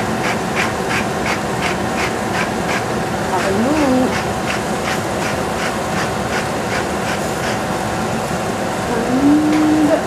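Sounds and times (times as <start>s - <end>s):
mechanical hum and hiss: 0.0s - 10.0s.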